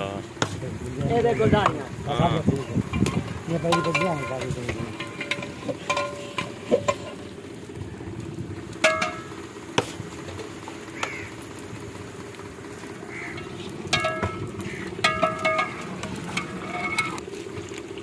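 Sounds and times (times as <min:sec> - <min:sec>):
steady low background hum: 0:00.0 - 0:18.0.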